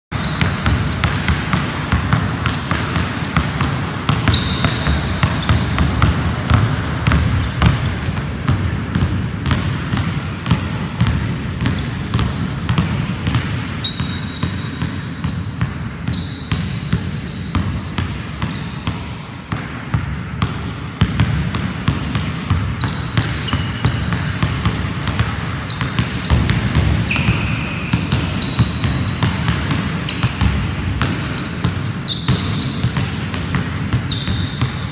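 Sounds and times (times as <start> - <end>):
sneakers squeaking on floor: 0.1 - 10.0, 11.0 - 34.9
basketball bouncing on floor: 0.2 - 34.9.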